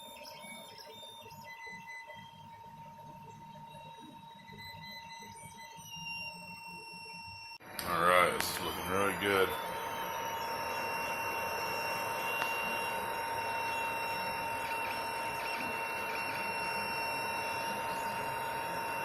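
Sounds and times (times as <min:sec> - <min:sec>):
three d printer whine: 0:00.0 - 0:19.0.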